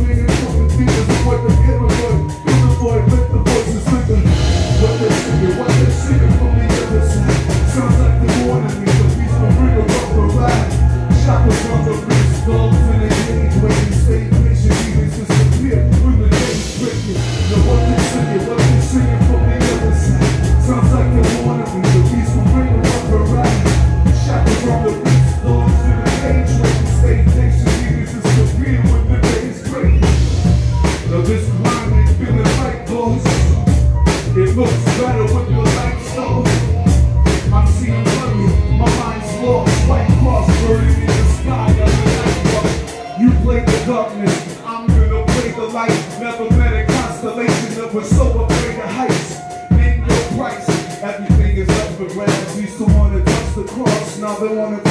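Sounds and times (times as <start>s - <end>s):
drum kit beat: 0.0s - 54.9s
heavy bass: 0.0s - 54.9s.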